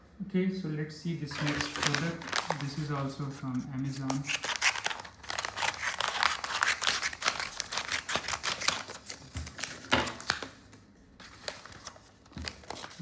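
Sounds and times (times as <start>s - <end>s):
packaging crackling: 1.3s - 3.2s, 3.8s - 13.0s.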